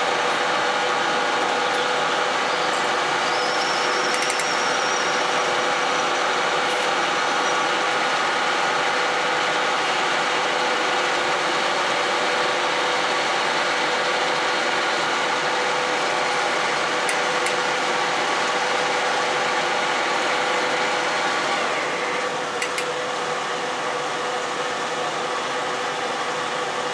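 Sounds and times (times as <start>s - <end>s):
metal lathe humming: 0.0s - 26.9s.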